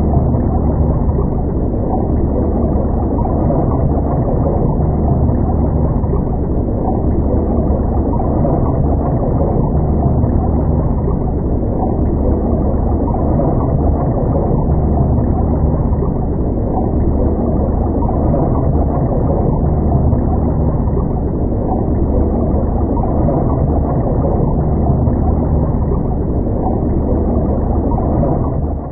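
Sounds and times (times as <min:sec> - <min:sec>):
boat engine droning: 0:00.0 - 0:28.9.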